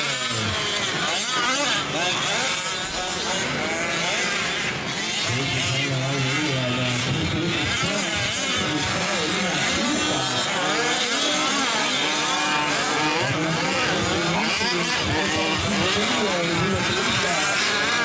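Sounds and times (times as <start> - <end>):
small two-stroke engines revving: 0.0 - 18.0.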